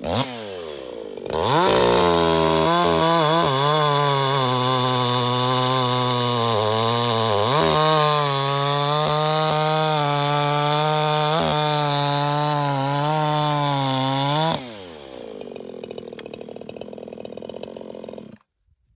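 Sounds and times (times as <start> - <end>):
chainsaw idling: 0.0 - 18.4
chainsaw cutting log: 0.0 - 18.6.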